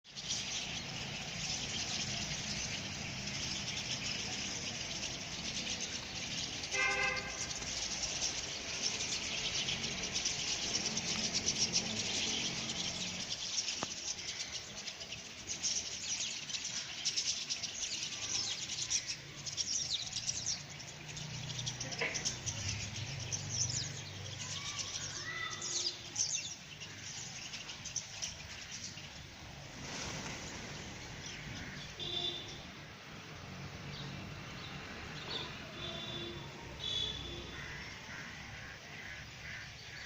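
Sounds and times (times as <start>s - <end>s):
flock of birds chirping: 0.0s - 40.0s.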